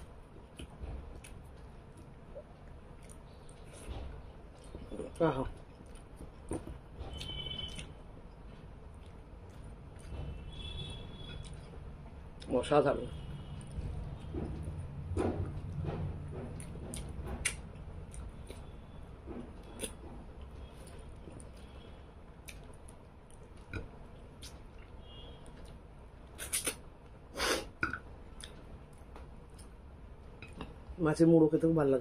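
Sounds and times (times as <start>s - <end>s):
person chewing food: 0.0s - 12.5s, 13.6s - 30.9s.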